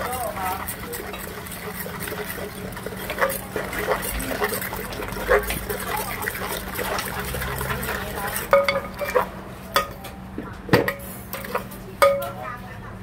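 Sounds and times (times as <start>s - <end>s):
wet sloshing scraping stir: 0.0s - 10.0s, 10.9s - 12.3s
ladle clinking against mortar: 0.0s - 10.2s, 10.8s - 12.5s.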